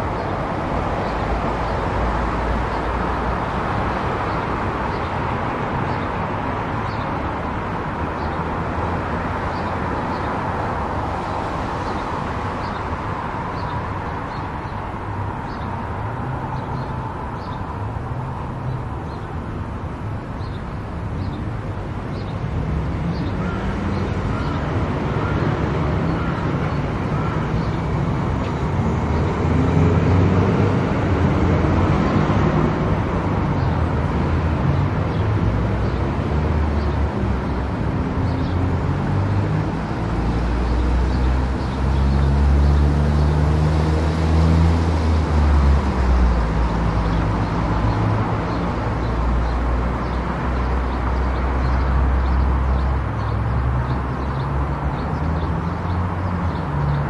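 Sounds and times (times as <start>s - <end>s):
car road and tyre noise: 0.0s - 57.0s.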